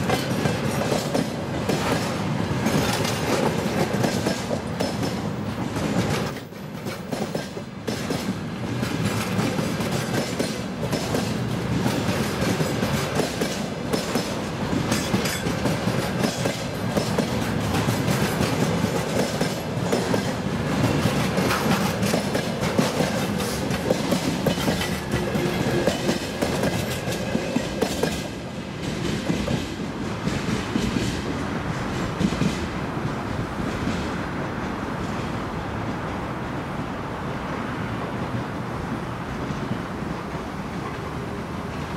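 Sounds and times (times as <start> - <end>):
train wheels clattering over rail joints: 0.0 - 34.2.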